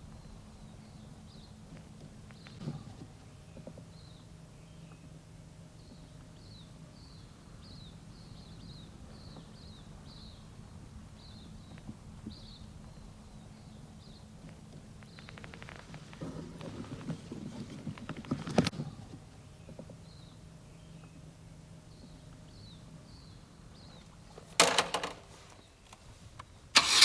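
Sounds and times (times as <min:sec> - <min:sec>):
small birds chirping: 0:00.0 - 0:24.4
steady low hum: 0:00.0 - 0:24.6.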